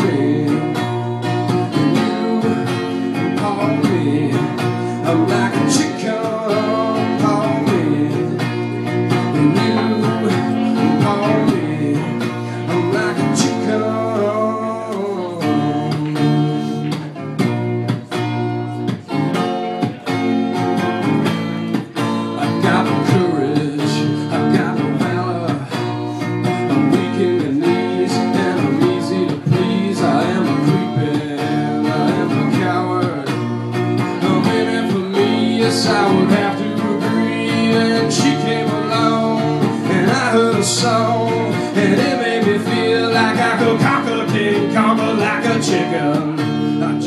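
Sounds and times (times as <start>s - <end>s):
man singing: 0.0s - 17.3s, 21.9s - 47.0s
electric guitar strumming: 0.0s - 47.0s.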